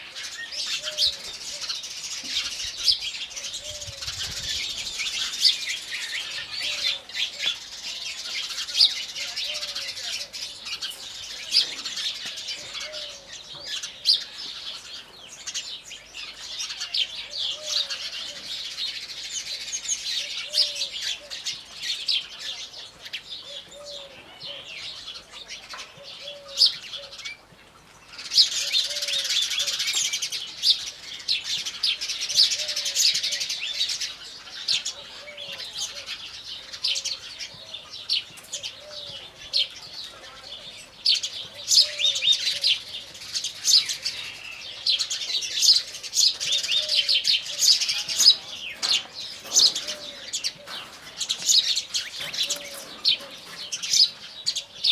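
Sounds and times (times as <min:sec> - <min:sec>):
sparrows chirping: 0:00.0 - 0:54.9.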